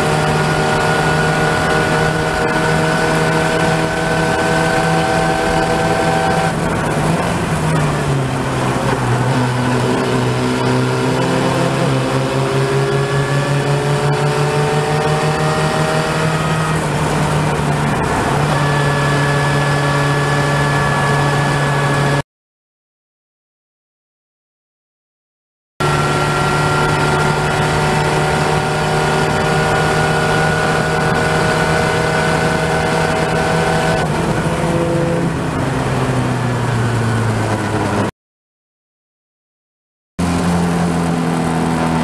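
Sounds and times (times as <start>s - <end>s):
race car engine running hard: 0.0s - 22.2s, 25.8s - 38.1s, 40.2s - 42.0s.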